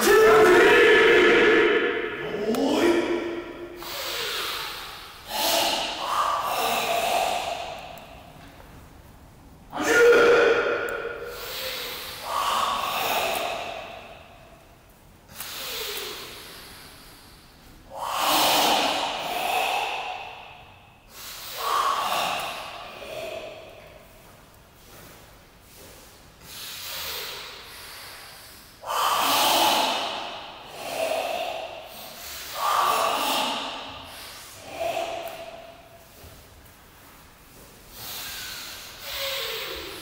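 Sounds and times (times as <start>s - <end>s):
forceful breathing with hiss: 0.0s - 8.4s, 9.7s - 40.0s.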